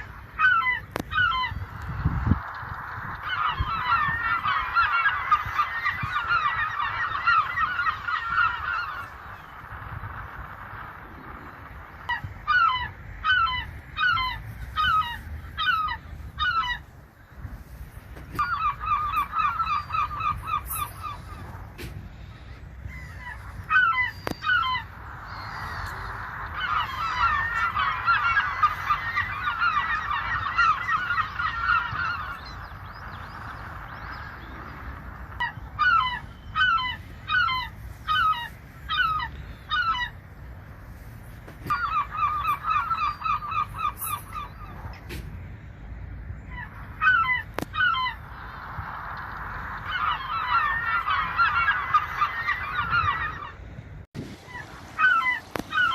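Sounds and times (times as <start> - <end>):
low rumble: 0.0 - 55.9
seagulls calling: 0.0 - 55.9.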